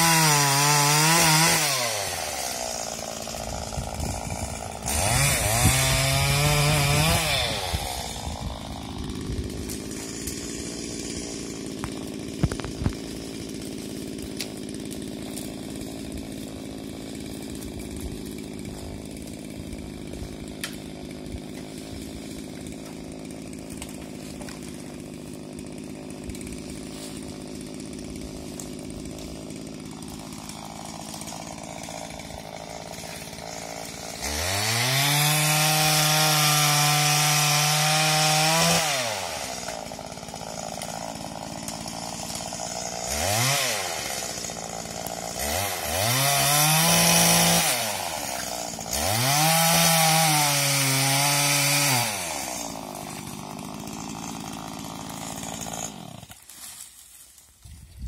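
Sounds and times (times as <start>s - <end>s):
pole saw engine revving: 0.0s - 56.5s.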